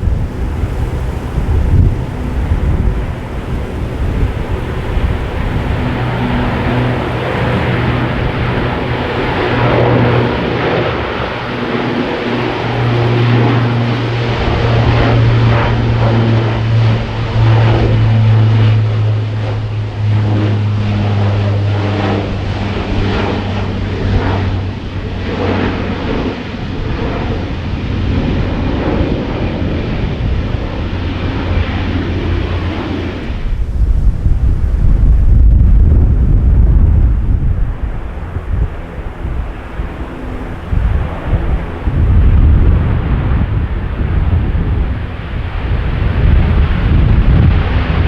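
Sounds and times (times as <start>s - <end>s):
propeller drone: 0.0s - 48.0s
rushing engine noise: 0.0s - 48.0s.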